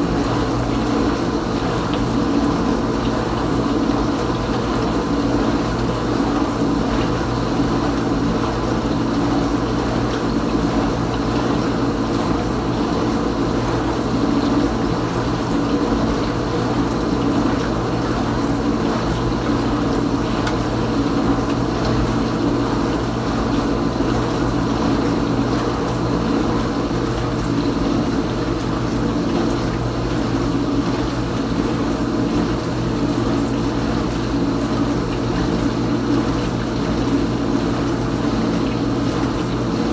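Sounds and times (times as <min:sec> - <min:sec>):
dishwasher pump motor humming: 0:00.0 - 0:39.9.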